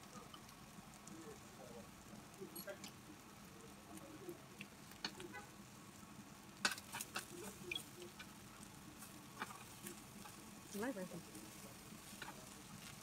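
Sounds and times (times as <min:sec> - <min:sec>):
faint background chatter: 0:00.0 - 0:13.0.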